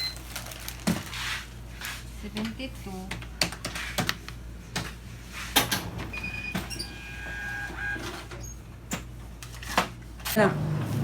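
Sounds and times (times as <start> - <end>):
items and money handled: 0.0 - 11.0.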